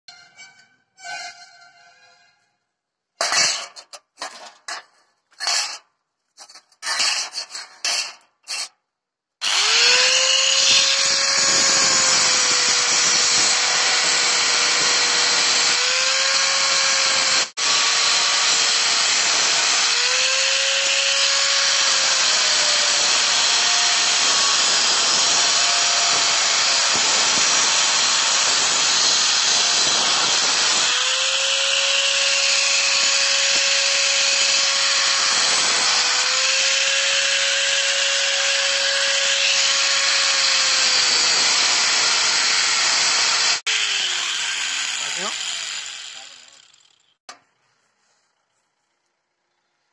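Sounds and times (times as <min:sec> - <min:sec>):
angle grinder cutting steel: 0:03.2 - 0:08.8, 0:09.4 - 0:47.2.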